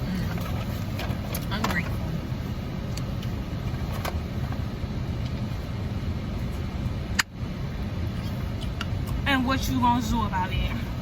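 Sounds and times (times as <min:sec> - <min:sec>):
car engine running inside cabin: 0:00.0 - 0:11.0.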